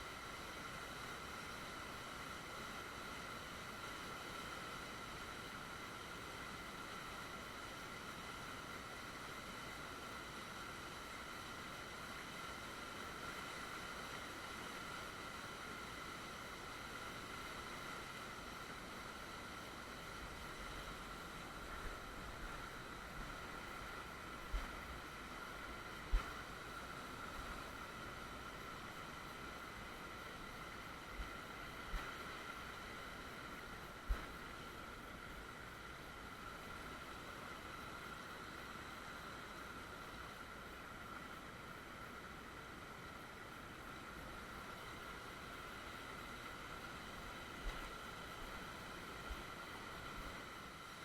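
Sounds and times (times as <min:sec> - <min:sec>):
creek water hissing: 0:00.0 - 0:51.0
faint electronic whine: 0:00.0 - 0:51.0.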